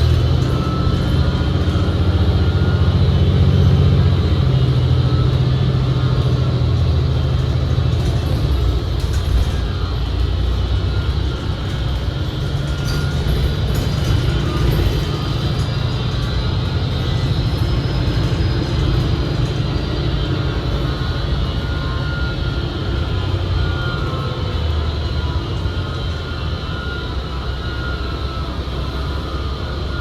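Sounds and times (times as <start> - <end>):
bus transmission drone: 0.0 - 30.0.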